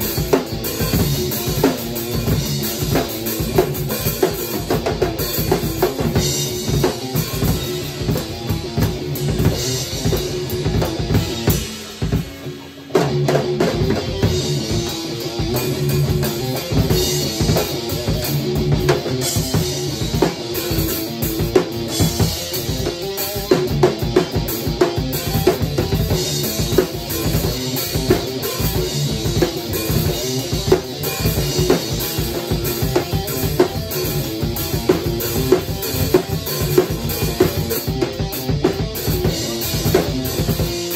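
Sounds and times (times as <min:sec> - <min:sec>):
drum kit beat: 0:00.0 - 0:40.9
electric guitar: 0:00.0 - 0:40.9.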